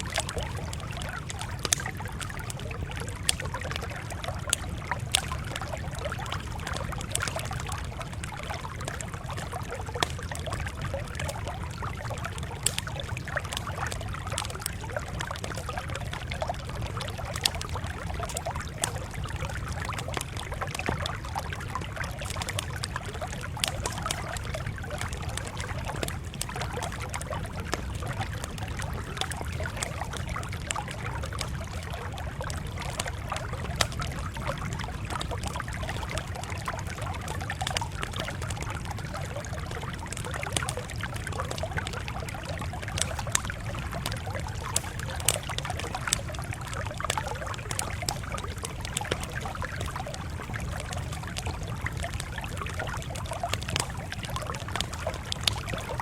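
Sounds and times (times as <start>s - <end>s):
sharp pops of fire: 0.0s - 7.7s, 8.4s - 15.6s, 17.2s - 34.1s, 42.8s - 56.0s
campfire crackling: 0.0s - 56.0s.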